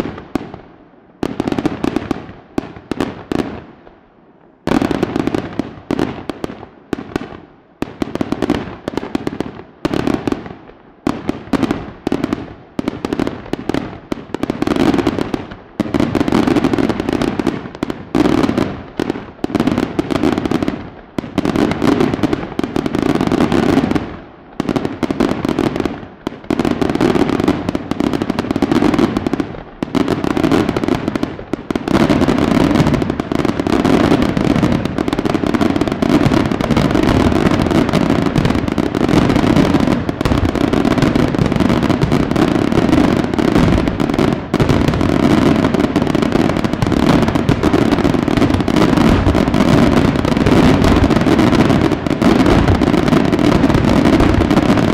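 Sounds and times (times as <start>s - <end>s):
fireworks bursting: 0.0s - 3.9s, 4.6s - 54.9s.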